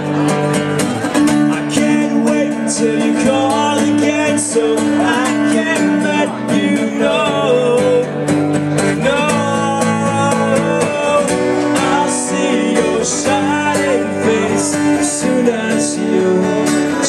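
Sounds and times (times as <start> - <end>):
acoustic guitar strumming: 0.0 - 17.0
man singing: 1.2 - 17.0.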